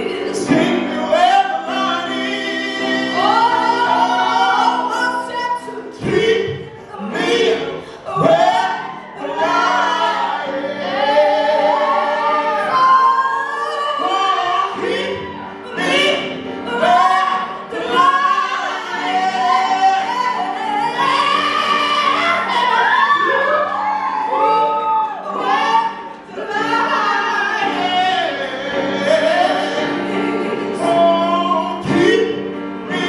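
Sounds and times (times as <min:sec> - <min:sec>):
grand piano: 0:00.0 - 0:33.0.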